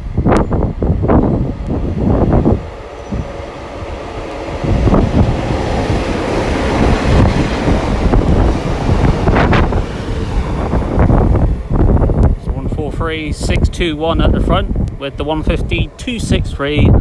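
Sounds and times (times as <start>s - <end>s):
trains rumbling on rails: 0.0s - 17.0s
wind buffeting microphone: 0.0s - 17.0s.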